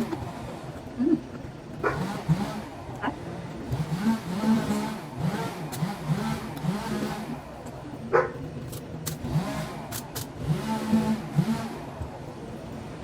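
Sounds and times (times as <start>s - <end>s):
construction machine engine revving: 0.0s - 12.4s.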